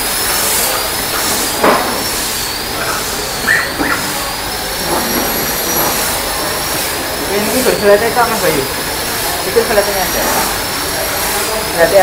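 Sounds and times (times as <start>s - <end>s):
workshop machinery with high whine: 0.0s - 12.0s.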